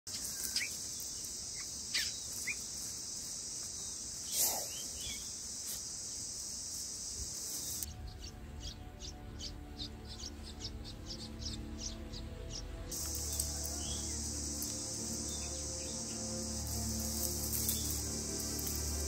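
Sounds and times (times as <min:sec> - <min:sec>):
high insect drone: 0:00.1 - 0:19.0
nestlings begging chirps: 0:00.1 - 0:19.0.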